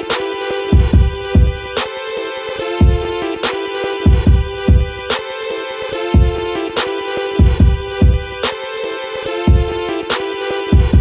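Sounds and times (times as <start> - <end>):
background music with a beat: 0.0 - 11.0.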